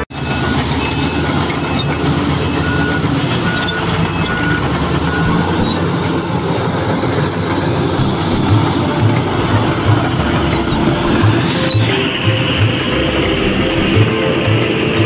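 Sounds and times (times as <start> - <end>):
bulldozer diesel engine under load: 0.0 - 15.0
steel tracks clattering: 0.0 - 15.0.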